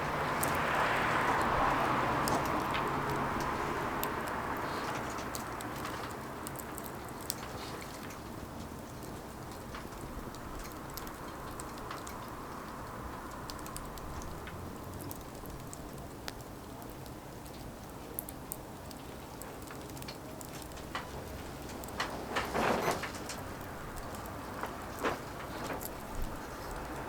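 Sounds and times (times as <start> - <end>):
firewood burning with crackles: 0.0 - 27.0.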